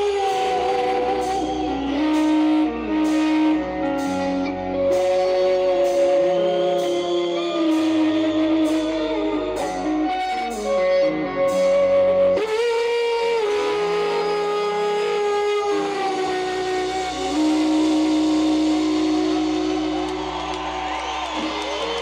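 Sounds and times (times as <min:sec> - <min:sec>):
electric guitar sustained notes: 0:00.0 - 0:22.0.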